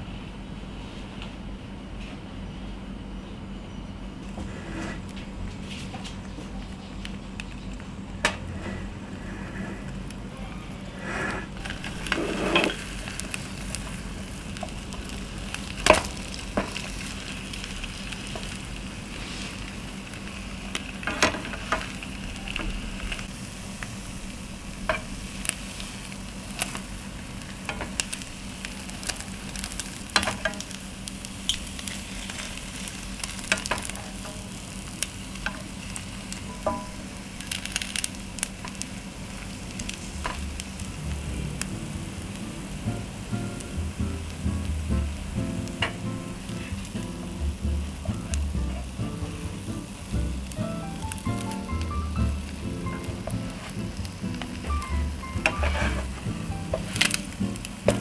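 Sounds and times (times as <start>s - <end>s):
egg sizzling in a frying pan: 11.2s - 58.0s.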